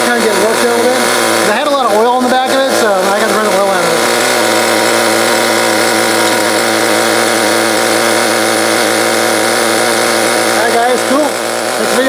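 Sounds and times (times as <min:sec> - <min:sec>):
small nitro engine idling: 0:00.0 - 0:12.0.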